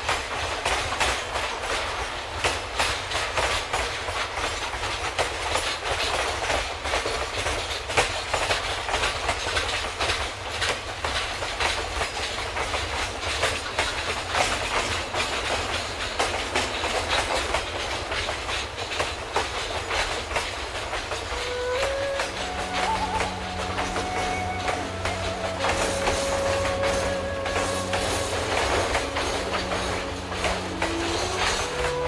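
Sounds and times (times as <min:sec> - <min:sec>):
train wheels clacking over rail joints: 0:00.0 - 0:32.0.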